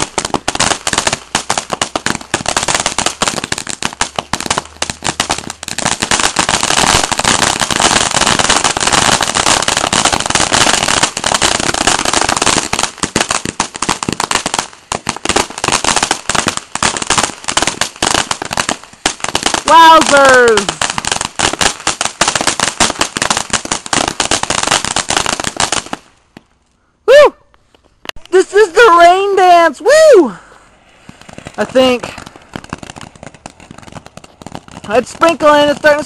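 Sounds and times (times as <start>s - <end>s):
firework fountain crackling: 0.0s - 26.6s, 28.0s - 36.0s.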